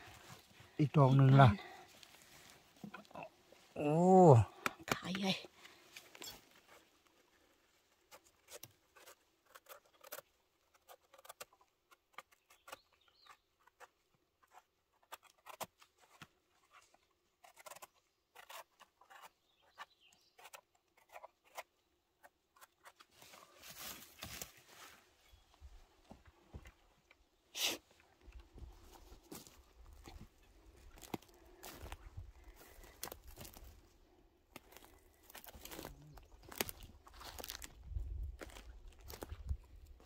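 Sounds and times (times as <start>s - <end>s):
digging in forest soil: 0.0s - 40.0s.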